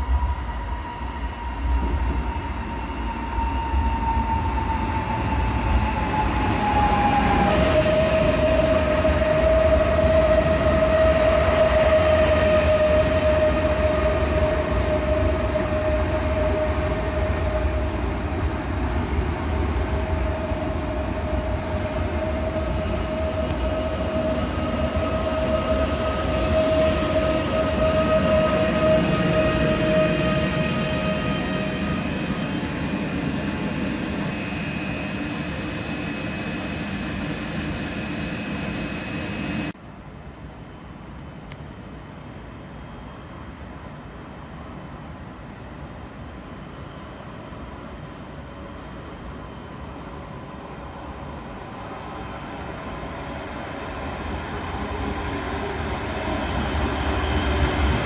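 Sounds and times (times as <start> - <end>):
wheels rumbling on rail: 0.0 - 39.8, 47.4 - 58.0.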